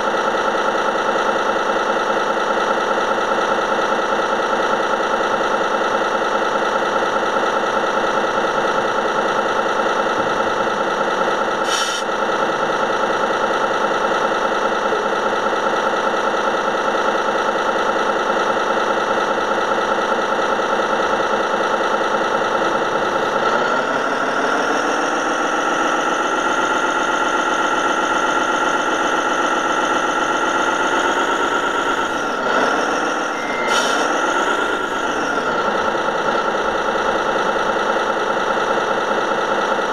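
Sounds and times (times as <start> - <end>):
simulated diesel engine revving: 0.1 - 39.9.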